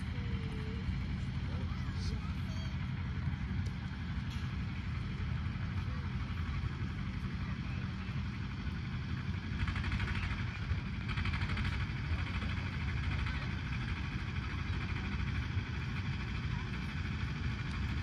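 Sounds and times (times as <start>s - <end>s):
faint distant voices: 0.0s - 18.0s
steady low rumble: 0.0s - 18.0s.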